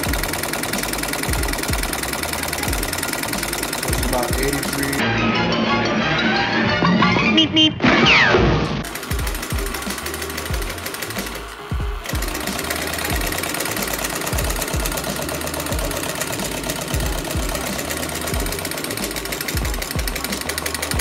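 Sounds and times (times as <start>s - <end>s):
small engine linkage clattering: 0.0s - 5.0s, 8.8s - 21.0s
background music with bass beat: 0.0s - 5.8s, 9.0s - 21.0s.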